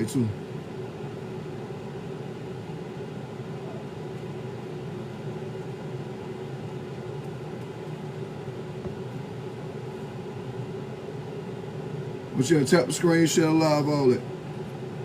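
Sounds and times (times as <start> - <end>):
machine hum with hiss: 0.0 - 15.0.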